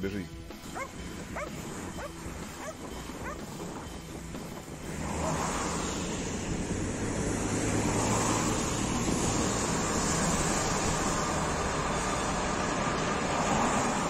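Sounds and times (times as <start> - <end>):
train wheels rumbling on rails: 0.6 - 14.0.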